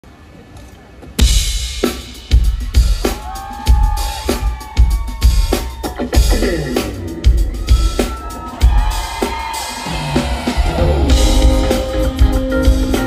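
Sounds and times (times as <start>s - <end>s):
drum kit with kick drum and cymbals: 1.1s - 13.0s.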